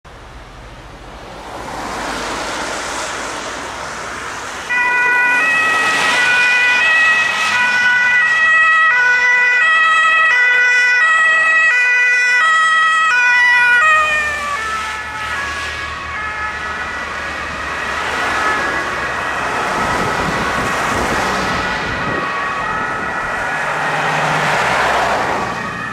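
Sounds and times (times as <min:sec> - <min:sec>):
cars passing: 0:00.1 - 0:25.9
fire engine two-tone siren: 0:04.7 - 0:25.9.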